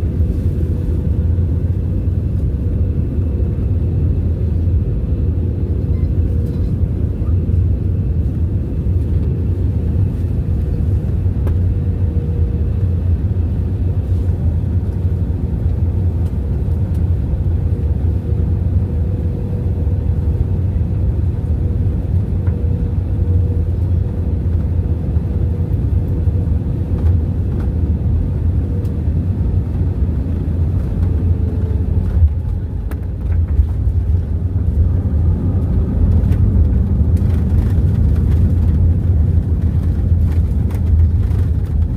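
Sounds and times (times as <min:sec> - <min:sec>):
airliner engines and airflow rumble: 0:00.0 - 0:41.9.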